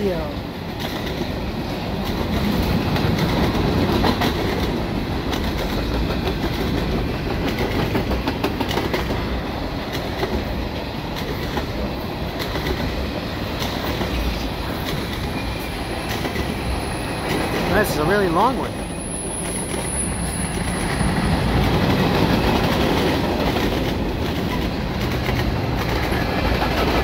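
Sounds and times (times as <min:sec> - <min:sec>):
train wheels roaring on rail: 0:00.0 - 0:27.0
wheels clicking over rail joints: 0:00.0 - 0:27.0.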